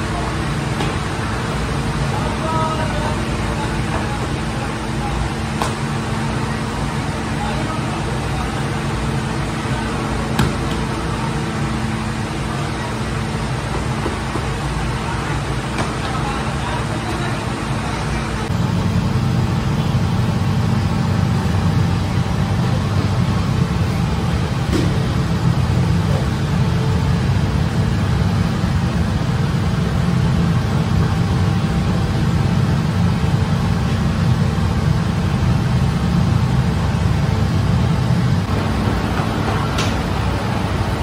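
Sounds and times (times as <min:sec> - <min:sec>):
faint motor hum: 0:00.0 - 0:41.0
oven low rumble: 0:00.0 - 0:41.0.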